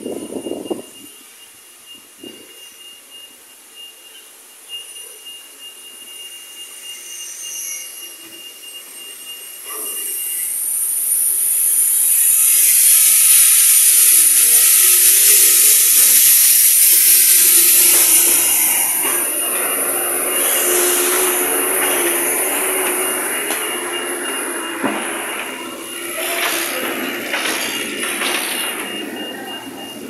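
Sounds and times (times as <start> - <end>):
faint high whistle: 0.0 - 30.0
loud steady hiss: 0.2 - 30.0.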